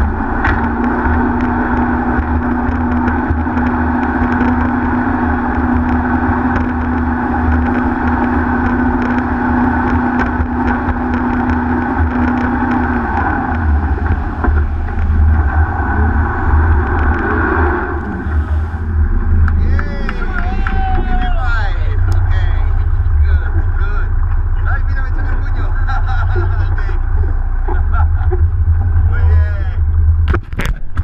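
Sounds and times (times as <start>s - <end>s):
low rumble: 0.0s - 31.0s
speedboat engine running: 0.0s - 31.0s.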